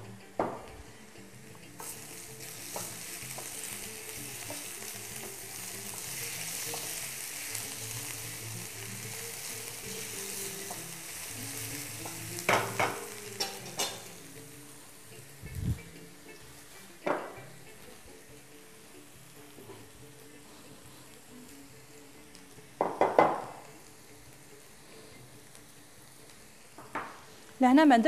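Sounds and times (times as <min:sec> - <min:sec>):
onions sizzling in frying pan: 0:00.0 - 0:28.0.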